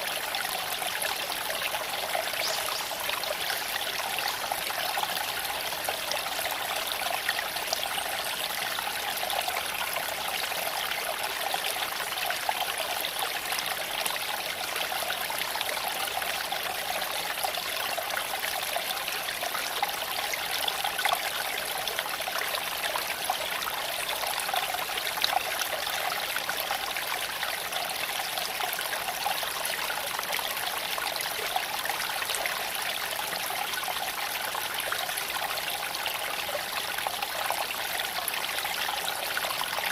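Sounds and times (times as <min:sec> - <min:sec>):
creek water babbling over stones: 0:00.0 - 0:39.9.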